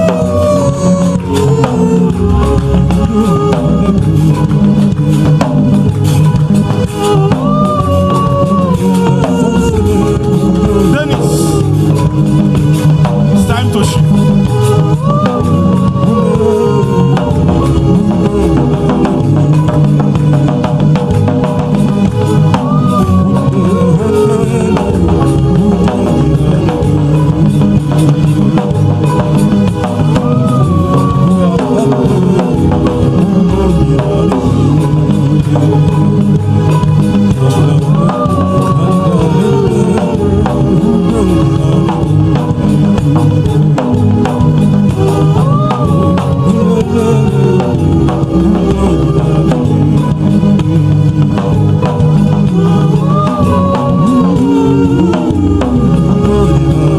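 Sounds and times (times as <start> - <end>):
bass line: 0.0 - 56.9
drums: 0.0 - 56.9
live band music: 0.0 - 56.9
sliding lead melody: 0.0 - 56.9.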